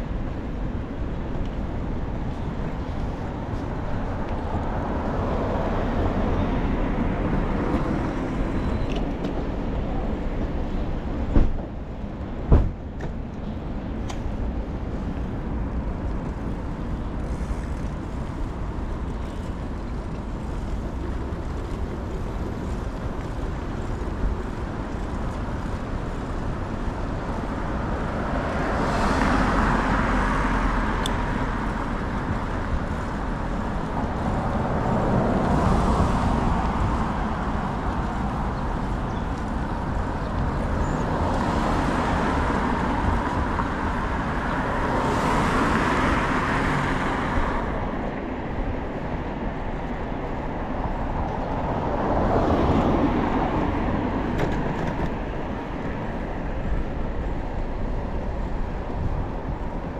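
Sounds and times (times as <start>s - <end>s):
city road traffic rumble: 0.0s - 59.9s.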